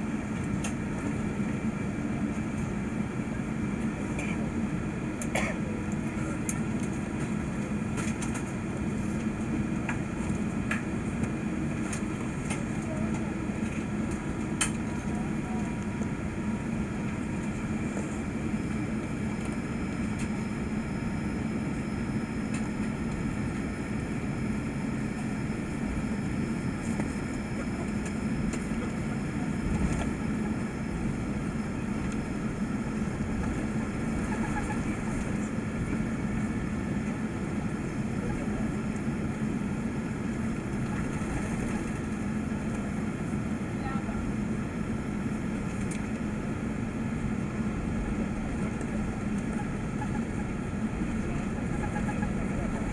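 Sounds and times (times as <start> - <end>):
aircraft cabin rumble and hum: 0.0 - 52.9.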